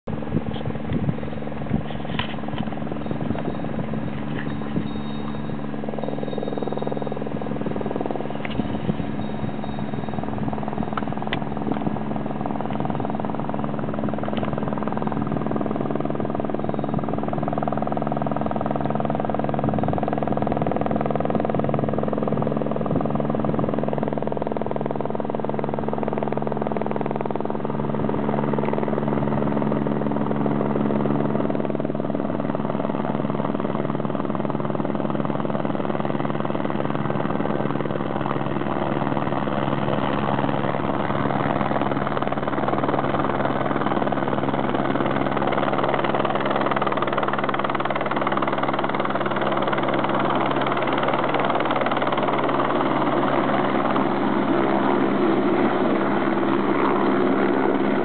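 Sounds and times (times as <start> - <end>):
helicopter rotor and turbine drone: 0.0 - 58.0.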